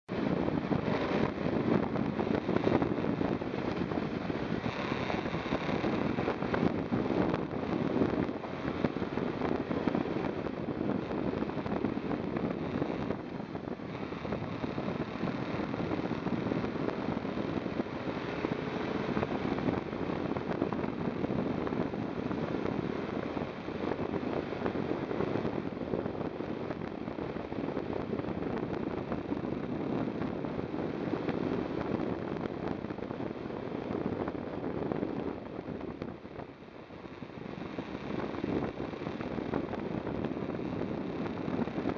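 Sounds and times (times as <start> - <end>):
motorcycle engine running: 0.0 - 41.9
wind rush over microphone: 0.1 - 41.9.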